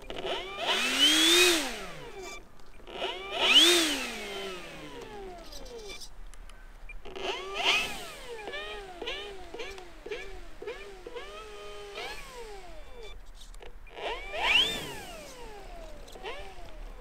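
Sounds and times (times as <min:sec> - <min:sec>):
electric motor and propeller whine: 0:00.0 - 0:06.0, 0:07.1 - 0:13.2, 0:13.8 - 0:17.0.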